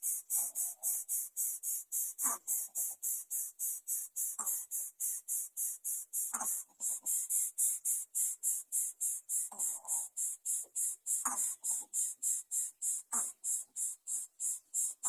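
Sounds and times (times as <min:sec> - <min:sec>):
high-pitched insect chorus pulsing: 0:00.1 - 0:15.0.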